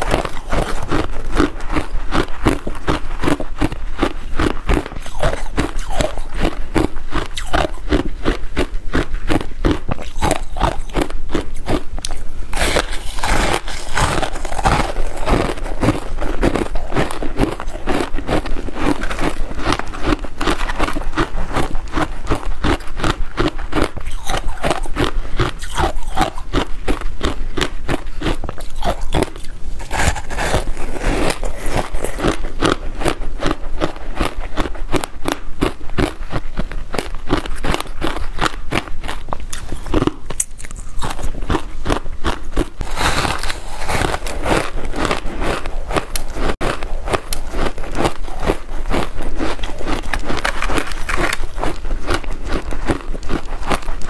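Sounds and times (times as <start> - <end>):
ice being bitten and chewed: 0.0 - 54.0.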